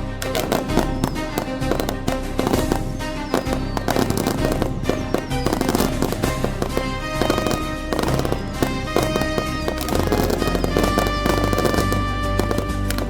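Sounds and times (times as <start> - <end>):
fireworks bangs and crackles: 0.0 - 13.0
loud instrumental music: 0.0 - 13.0.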